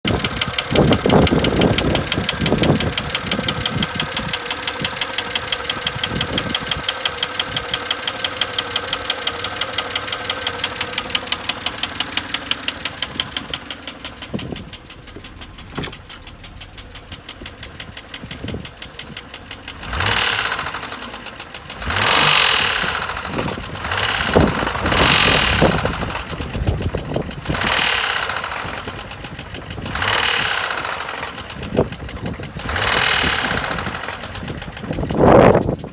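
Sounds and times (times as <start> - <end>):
car engine knocking: 0.0 - 35.9.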